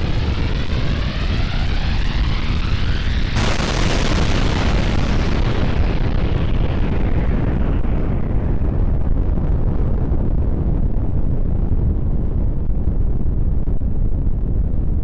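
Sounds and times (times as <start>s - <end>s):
deep rumble of explosion: 0.0s - 15.0s.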